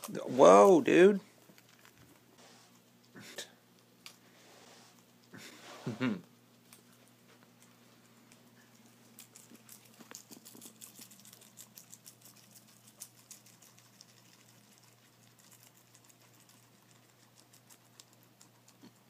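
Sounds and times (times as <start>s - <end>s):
guinea pigs chewing vegetables: 0.0s - 19.0s.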